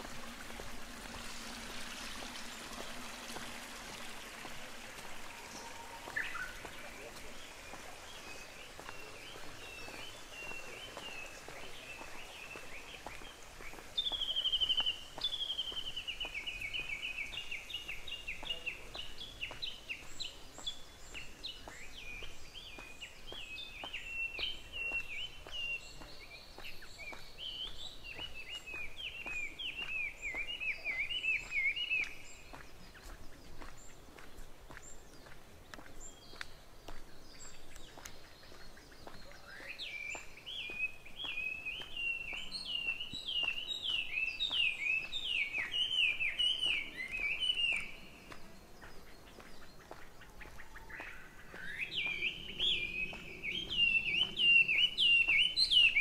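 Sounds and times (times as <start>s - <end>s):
faint footsteps: 0.0s - 56.0s
songbirds chirping and trilling: 0.0s - 56.0s.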